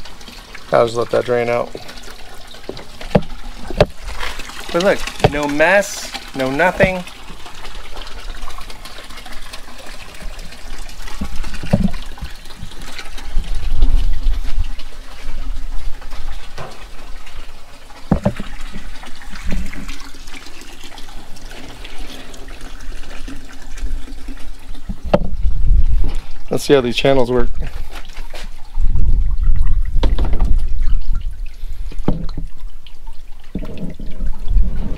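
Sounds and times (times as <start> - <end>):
water draining into plastic bucket: 0.0 - 34.9.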